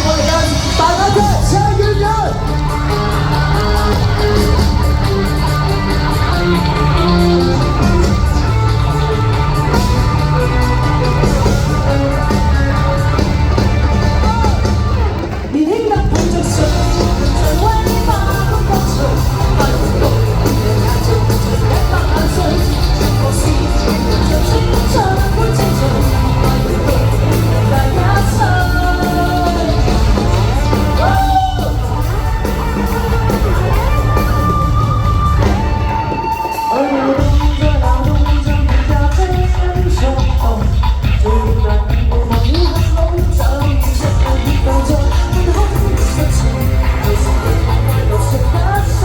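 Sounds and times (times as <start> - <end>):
bass and drums: 0.0 - 49.0
loud electric guitar: 0.0 - 49.0
rock band playing: 0.0 - 49.0.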